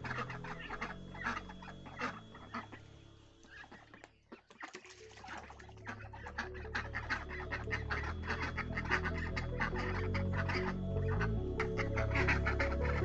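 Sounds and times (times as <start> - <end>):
hen clucking: 0.0 - 13.0
soft background music: 0.0 - 13.0.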